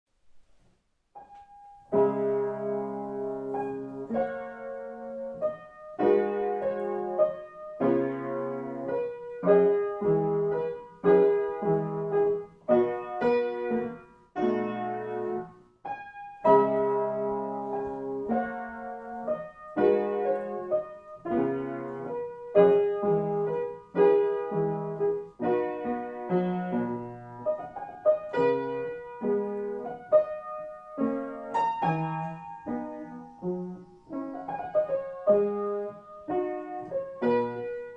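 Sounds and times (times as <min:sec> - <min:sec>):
piano chords ringing: 0:01.1 - 0:37.9.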